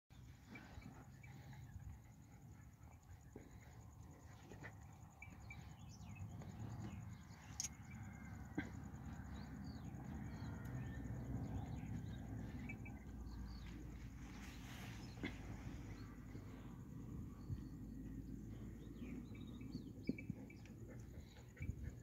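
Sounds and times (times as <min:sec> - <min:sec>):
small birds chirping: 0:00.1 - 0:22.0
steady low rumble: 0:00.2 - 0:22.0.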